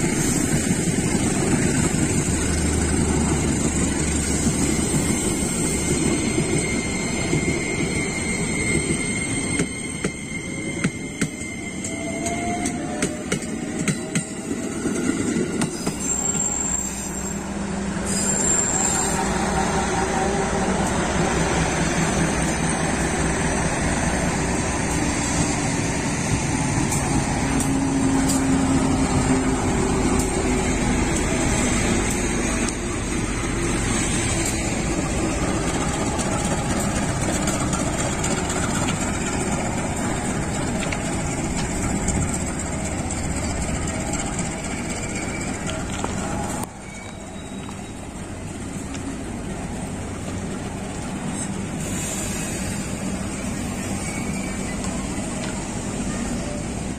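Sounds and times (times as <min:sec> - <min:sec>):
diesel locomotive engine passing: 0:00.0 - 0:56.9
train wheels rolling on rails: 0:00.0 - 0:56.9.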